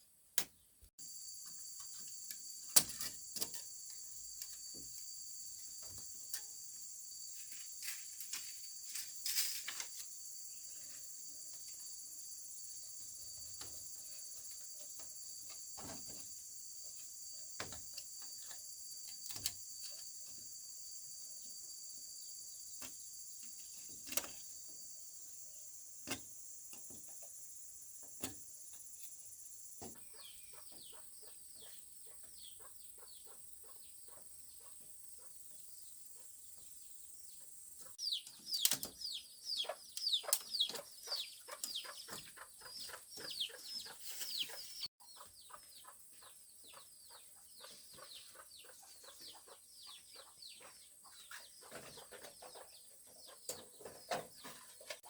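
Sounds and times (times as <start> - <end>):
insects chirping: 1.0 - 55.0.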